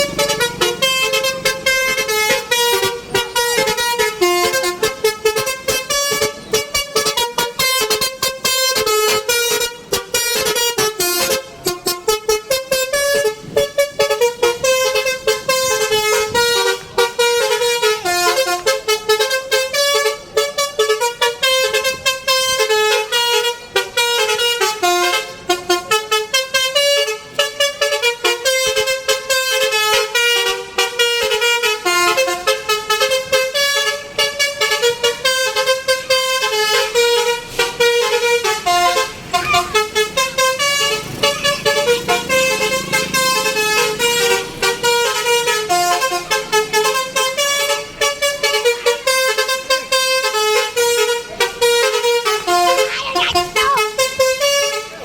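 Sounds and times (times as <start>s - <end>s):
air horn playing a melody: 0.0s - 55.0s.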